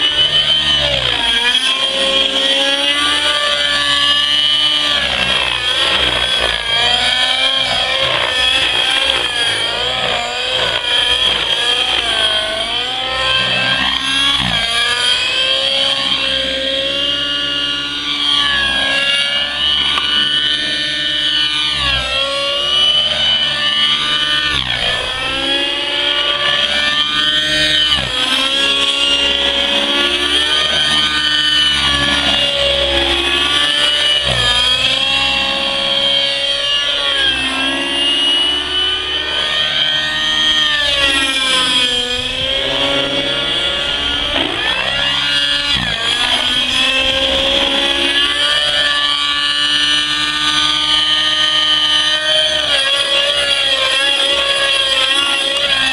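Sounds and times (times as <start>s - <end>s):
model helicopter engine whining: 0.0s - 55.9s.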